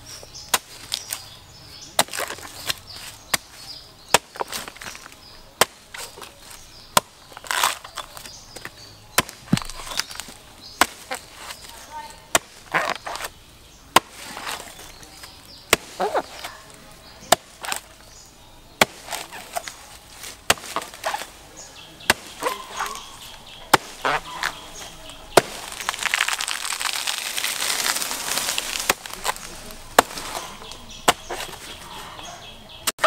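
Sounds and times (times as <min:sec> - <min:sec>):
palm fronds rustling: 0:00.0 - 0:33.0
blade chopping palm trunk: 0:00.5 - 0:01.3, 0:01.9 - 0:16.5, 0:17.2 - 0:18.0, 0:18.8 - 0:21.4, 0:22.0 - 0:31.8.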